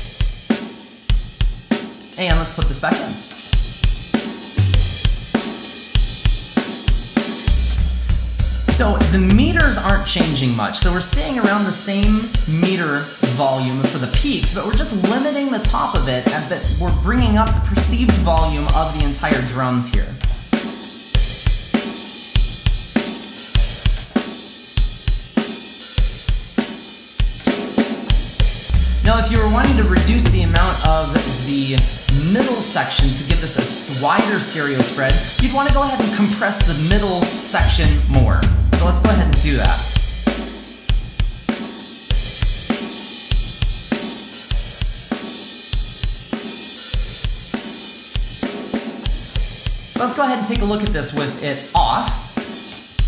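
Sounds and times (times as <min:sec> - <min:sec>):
drum kit groove: 0:00.0 - 0:53.0.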